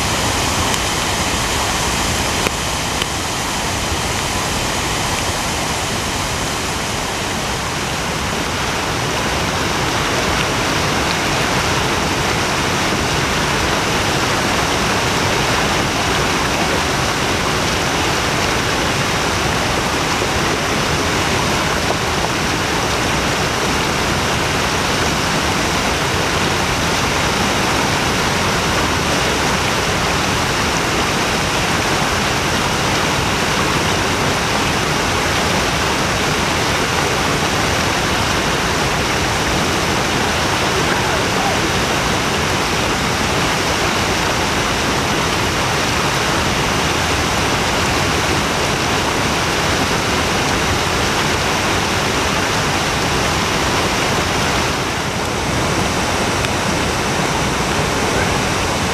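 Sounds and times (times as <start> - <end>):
water rushing over rocks: 0.0 - 58.9.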